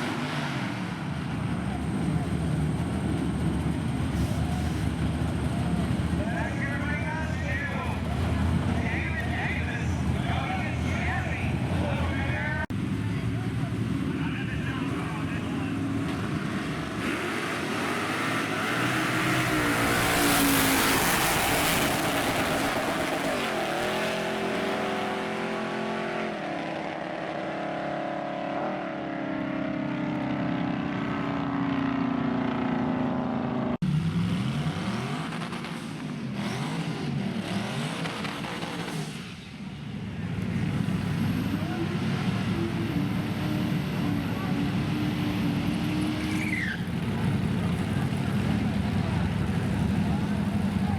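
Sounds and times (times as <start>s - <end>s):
engines revving up and down: 0.0s - 50.9s
truck engines at full throttle: 0.0s - 50.9s.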